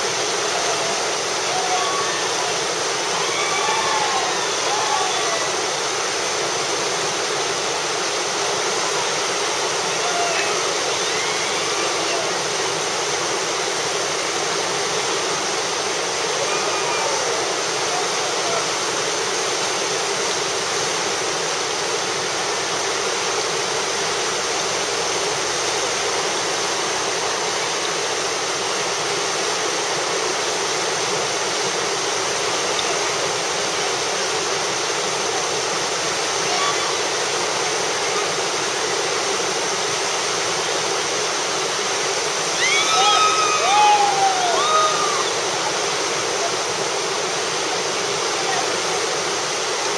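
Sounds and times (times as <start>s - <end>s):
river rapid roaring: 0.0s - 49.9s.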